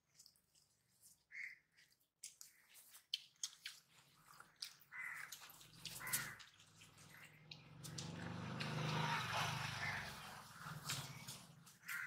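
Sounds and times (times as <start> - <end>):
hands eating rice: 0.0 - 12.0.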